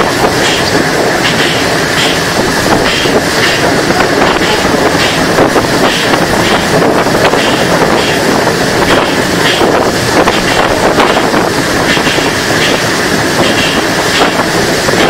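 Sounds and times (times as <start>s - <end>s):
train running at speed: 0.0s - 15.0s
wind on microphone: 0.0s - 15.0s.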